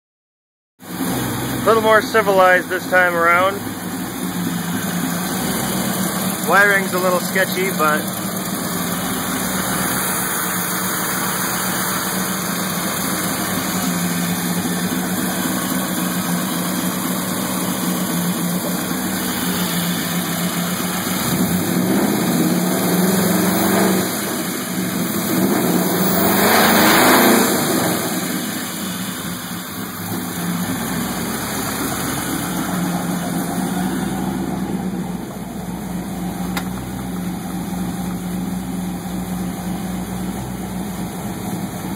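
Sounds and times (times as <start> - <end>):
car engine idling and revving: 0.8 - 41.9.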